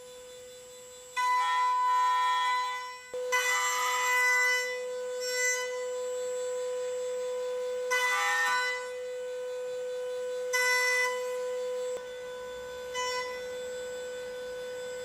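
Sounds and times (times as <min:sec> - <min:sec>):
router spindle whining: 0:00.0 - 0:15.0
router bit cutting wood: 0:01.2 - 0:15.0.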